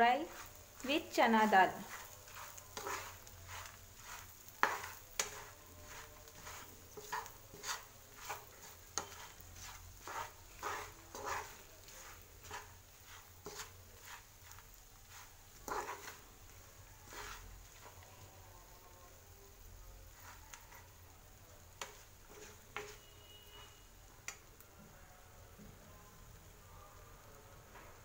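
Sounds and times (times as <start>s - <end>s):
spatula scraping a frying pan: 0.2s - 23.9s.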